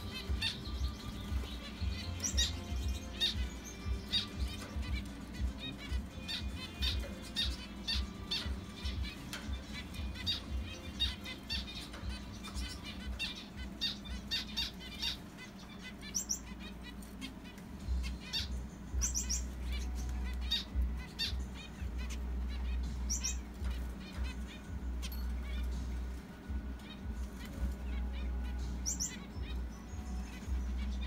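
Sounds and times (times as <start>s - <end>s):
finches calling: 0.0s - 31.0s.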